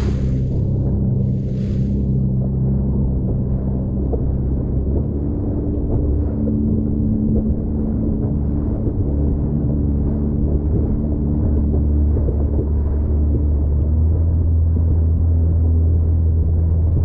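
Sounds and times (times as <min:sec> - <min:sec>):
jet ski engine droning: 0:00.0 - 0:17.0.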